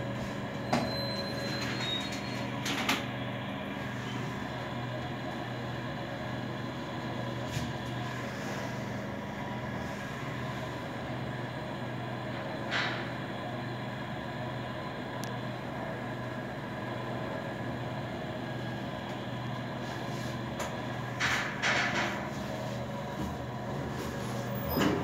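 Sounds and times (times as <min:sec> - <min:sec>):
elevator running hum: 0:00.0 - 0:25.0.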